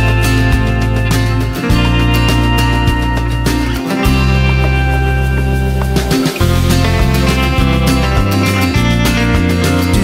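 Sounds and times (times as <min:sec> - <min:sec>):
background music with bass notes: 0:00.0 - 0:10.0.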